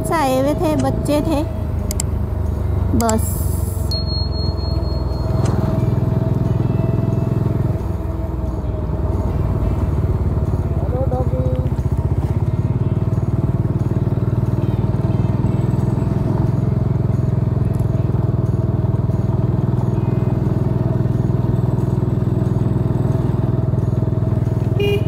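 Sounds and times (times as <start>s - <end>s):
car engine running: 0.0s - 25.0s
road noise: 0.0s - 25.0s.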